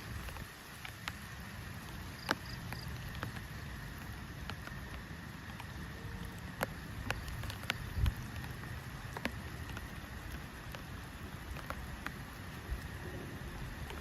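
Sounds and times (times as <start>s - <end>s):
low wind rumble: 0.0s - 14.0s
raindrops tapping: 0.0s - 14.0s.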